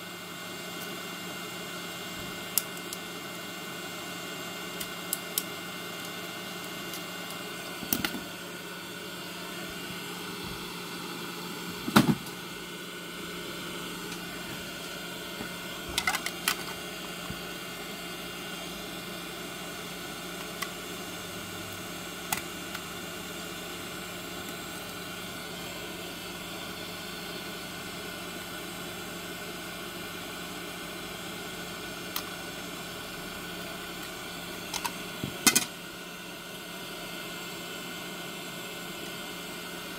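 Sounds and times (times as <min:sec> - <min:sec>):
background hiss and hum: 0:00.0 - 0:39.9.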